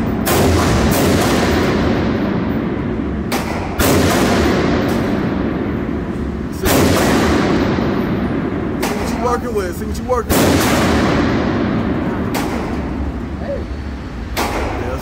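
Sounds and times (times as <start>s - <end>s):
gunshots echoing indoors: 0.0s - 13.3s.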